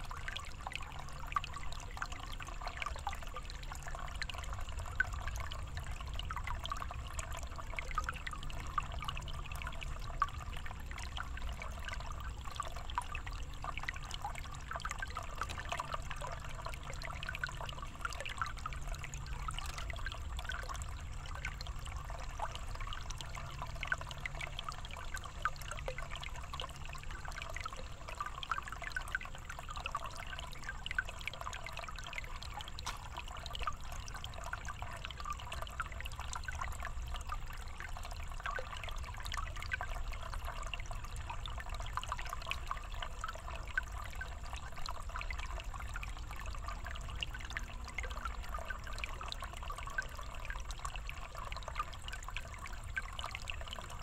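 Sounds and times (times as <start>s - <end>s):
low steady rumble: 0.0s - 54.0s
water pouring from a spout: 0.0s - 54.0s.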